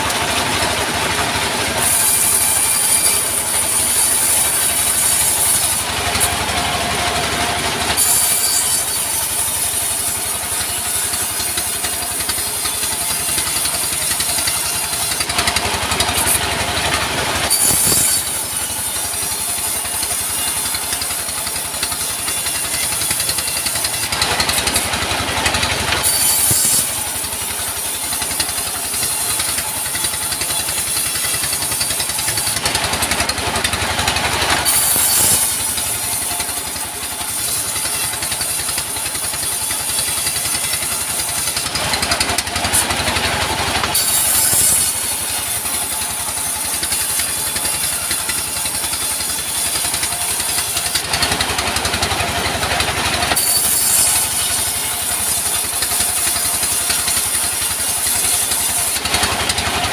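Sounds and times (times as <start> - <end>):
bandsaw cutting timber: 0.0 - 59.9
diesel engine running: 0.0 - 59.9.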